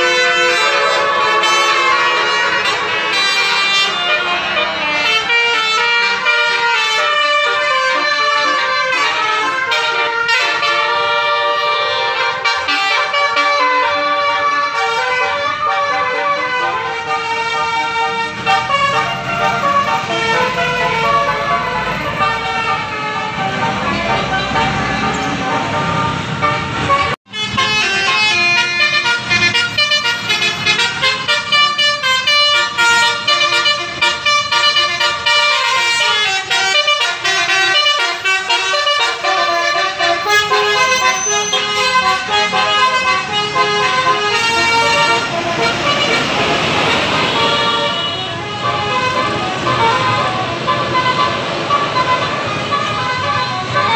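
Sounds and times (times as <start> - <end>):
multi-tone vehicle horns playing tunes: 0.0 - 53.9.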